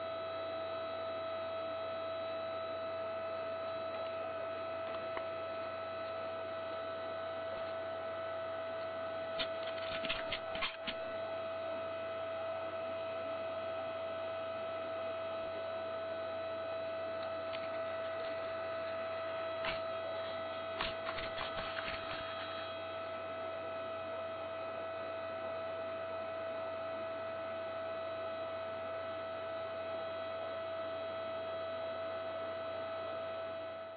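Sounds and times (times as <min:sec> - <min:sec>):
electrical hum: 0:00.0 - 0:33.9.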